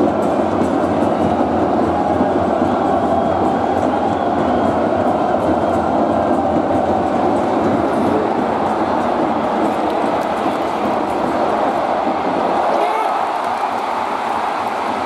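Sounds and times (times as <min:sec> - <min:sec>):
stadium crowd din: 0:00.0 - 0:15.0.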